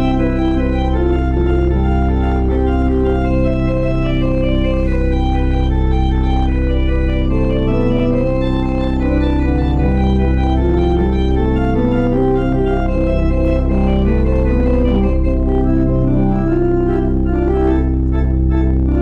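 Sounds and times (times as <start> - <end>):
organ playing chords: 0.0 - 19.0.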